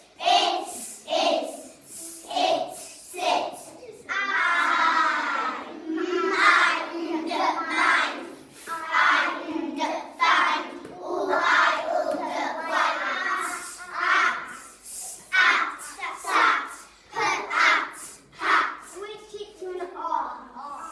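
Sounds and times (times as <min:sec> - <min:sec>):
children singing in unison: 0:00.0 - 0:18.8.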